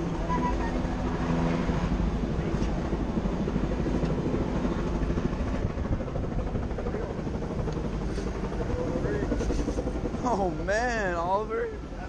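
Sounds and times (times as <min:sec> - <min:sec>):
helicopter rumble and flutter: 0:00.0 - 0:12.0.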